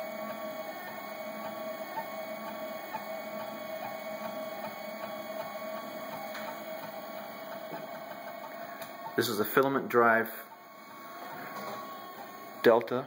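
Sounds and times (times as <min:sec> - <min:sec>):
stepper motors whining: 0:00.0 - 0:12.9.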